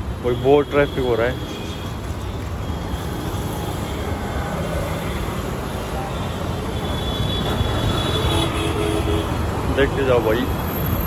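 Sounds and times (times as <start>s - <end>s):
motorcycles and cars passing: 0.0s - 11.0s.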